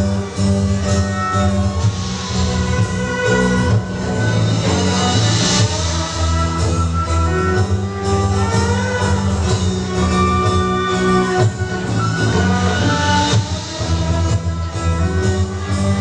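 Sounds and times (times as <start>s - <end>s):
held melody notes: 0.0s - 16.0s
steady low bass: 0.0s - 16.0s.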